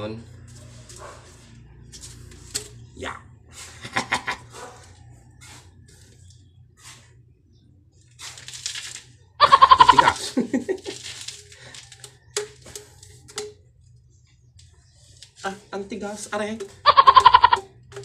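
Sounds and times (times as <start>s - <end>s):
plastic pipe rubbing and scraping: 0.3s - 4.0s, 4.8s - 18.0s.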